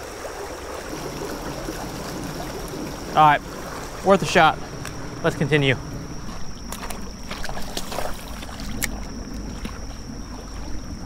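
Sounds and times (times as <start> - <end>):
water sloshing around legs: 0.0 - 11.0.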